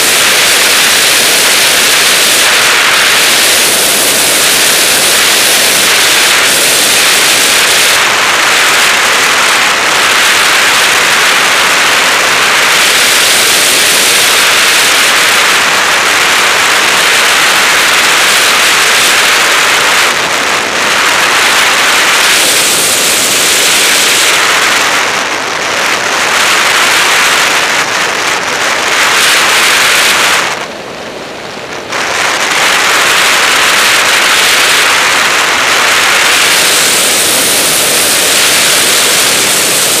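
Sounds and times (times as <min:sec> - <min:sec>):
rushing wind noise: 0:00.0 - 0:40.0.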